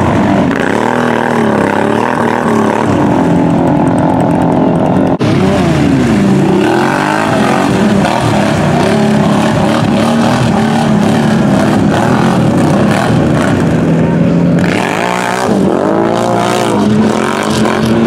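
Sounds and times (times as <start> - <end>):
quad engine revving: 0.0 - 18.0.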